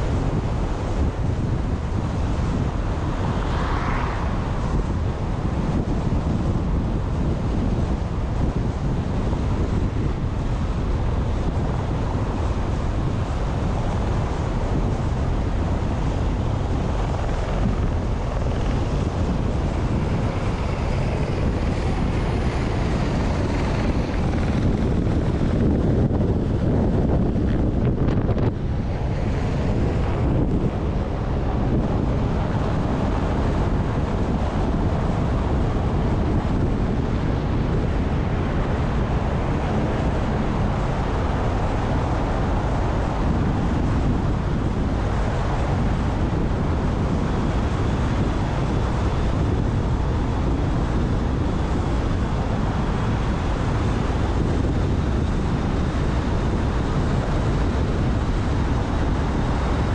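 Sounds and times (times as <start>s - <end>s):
car road noise: 0.0s - 59.9s
wind rumbling on microphone: 0.0s - 59.9s.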